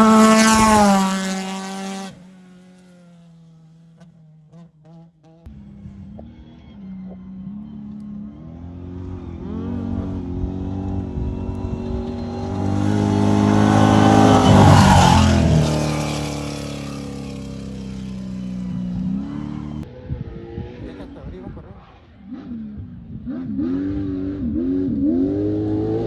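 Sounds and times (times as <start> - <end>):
race vehicle engine passing by: 0.0 - 26.0.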